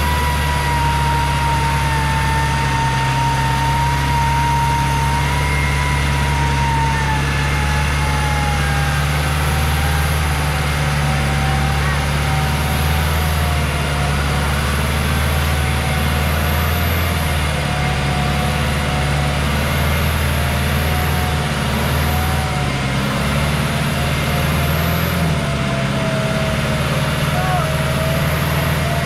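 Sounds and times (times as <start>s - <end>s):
engine running under load: 0.0s - 29.0s.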